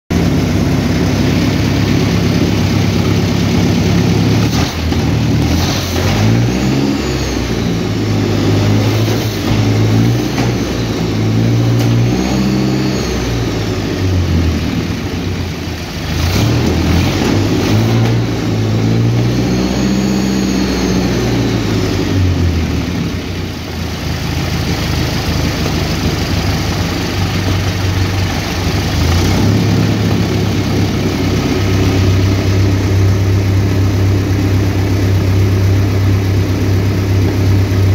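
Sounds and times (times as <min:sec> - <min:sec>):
petrol engine revving and idling: 0:00.1 - 0:37.9.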